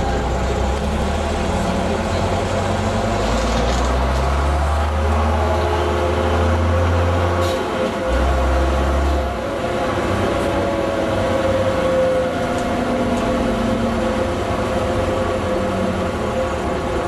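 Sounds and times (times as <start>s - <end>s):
bus engine pulling: 0.0s - 17.0s.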